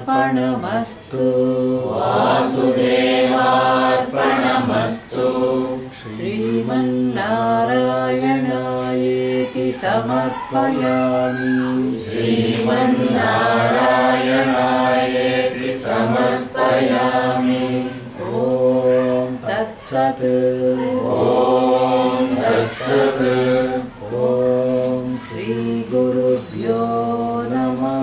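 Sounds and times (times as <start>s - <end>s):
voices chanting together: 0.0s - 28.0s.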